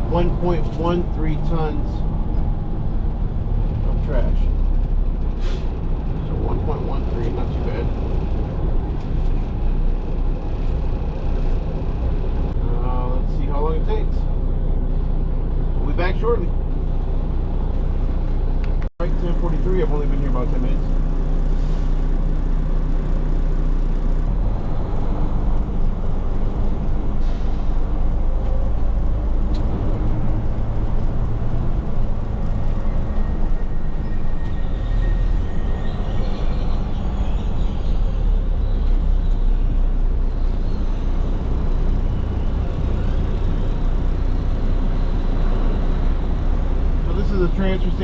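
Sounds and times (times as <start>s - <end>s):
truck engine rumbling: 0.0s - 48.0s.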